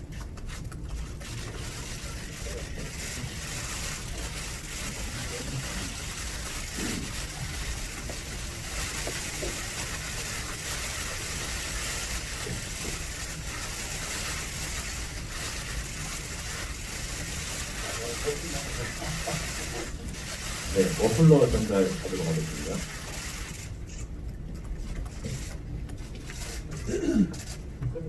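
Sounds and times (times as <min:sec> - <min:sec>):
room noise hiss: 0:00.0 - 0:28.0.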